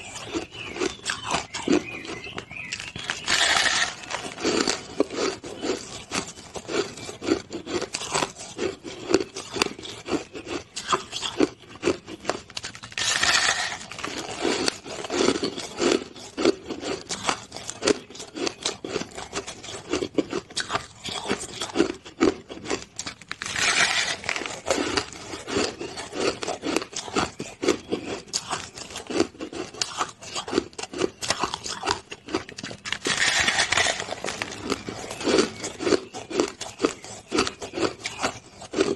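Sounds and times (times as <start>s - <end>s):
ice being chewed: 0.0s - 38.9s
loud crunching bites of ice: 0.0s - 38.9s.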